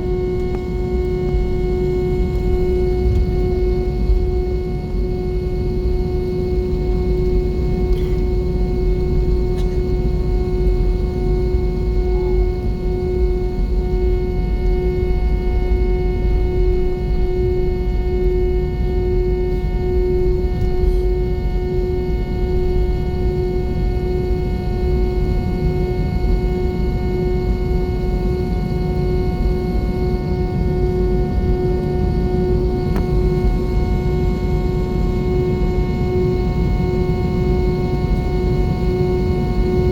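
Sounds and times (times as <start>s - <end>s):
droning hum: 0.0s - 39.9s
jet engine and airflow rumble: 0.0s - 39.9s.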